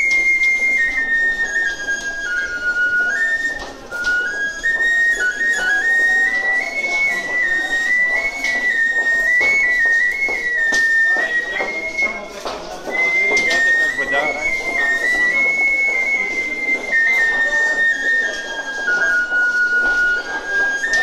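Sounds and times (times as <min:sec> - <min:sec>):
footsteps clicking: 0:00.0 - 0:21.0
person whistling a melody: 0:00.0 - 0:21.0.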